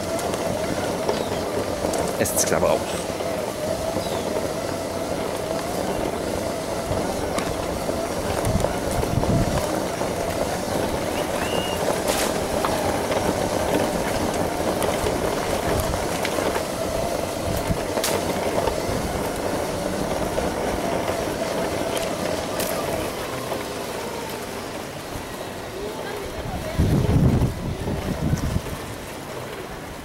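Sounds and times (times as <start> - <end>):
sharp clicks from bumps: 0.0 - 26.2
tyres rumbling on sand: 0.0 - 30.0
wind: 0.0 - 30.0.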